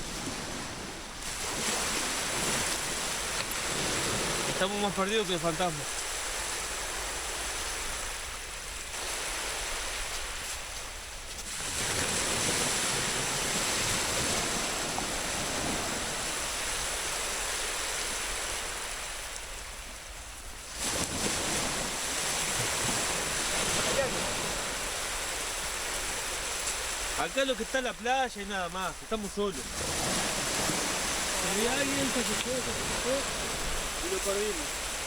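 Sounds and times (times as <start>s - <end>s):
sea surf washing onto beach: 0.0s - 35.0s.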